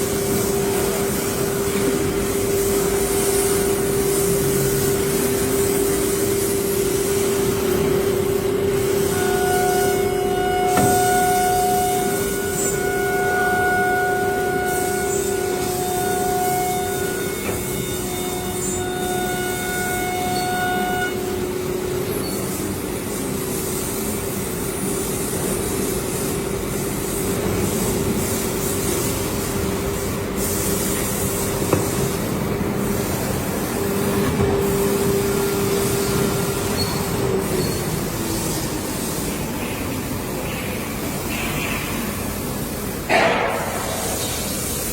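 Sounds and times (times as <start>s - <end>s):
machine noise: 0.0s - 44.9s.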